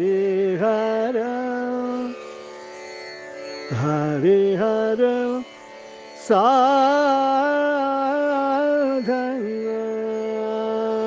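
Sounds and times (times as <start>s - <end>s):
man singing long held notes: 0.0s - 2.3s, 3.7s - 5.5s, 6.2s - 11.0s.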